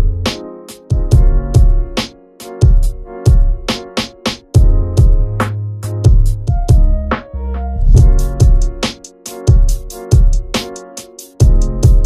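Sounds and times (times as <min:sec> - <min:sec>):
music with heavy kick drum: 0:00.0 - 0:12.0.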